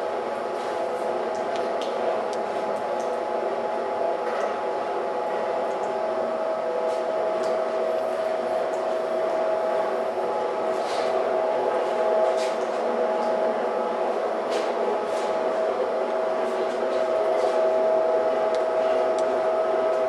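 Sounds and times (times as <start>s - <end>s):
machine whining tone: 3.3s - 20.0s.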